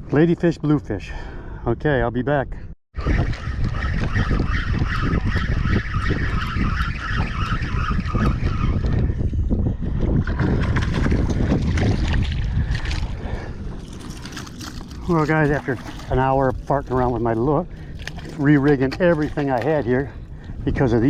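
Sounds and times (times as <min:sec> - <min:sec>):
wind buffeting microphone: 0:01.9 - 0:21.0.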